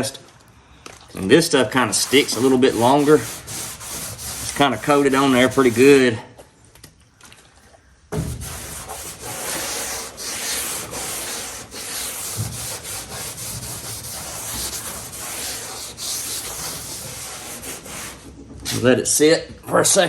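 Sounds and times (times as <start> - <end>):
hand scrubbing aluminum hull: 1.1 - 6.2, 8.1 - 20.0.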